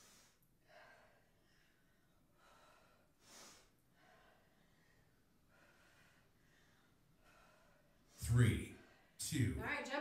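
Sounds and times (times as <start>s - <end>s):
woman breathing hard: 0.0s - 8.2s.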